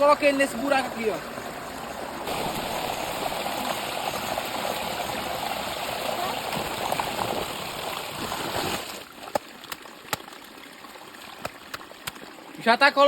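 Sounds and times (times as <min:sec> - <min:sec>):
river water rushing: 0:00.2 - 0:12.6.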